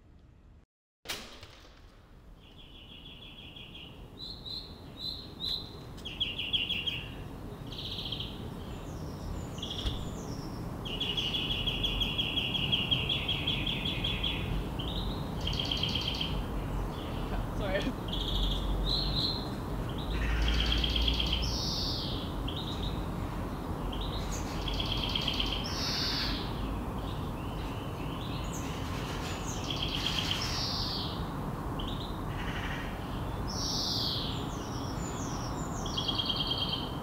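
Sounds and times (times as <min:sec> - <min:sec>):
outdoor background hiss: 0:00.2 - 0:37.0.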